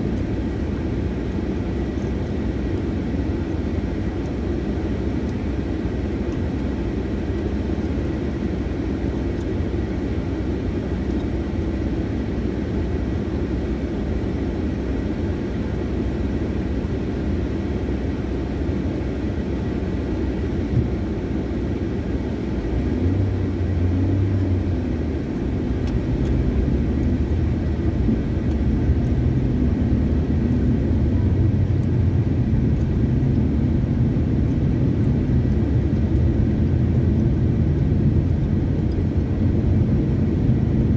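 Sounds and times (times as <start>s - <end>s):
car cabin hum: 0.0s - 40.9s
engine and road rumble: 0.0s - 40.9s.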